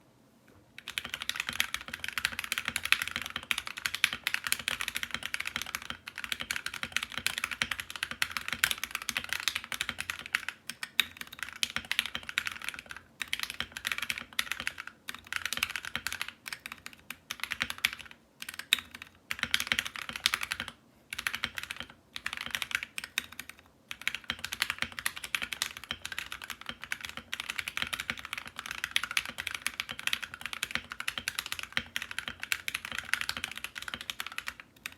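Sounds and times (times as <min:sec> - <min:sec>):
fast typing on mechanical keyboard: 0:00.8 - 0:34.9.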